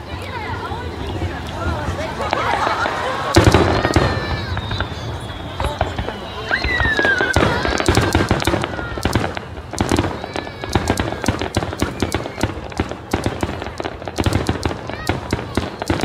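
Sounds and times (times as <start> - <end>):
firework bursts and bangs: 0.0 - 16.0
firework crackling: 0.0 - 16.0
falling firework whistle: 2.3 - 16.0.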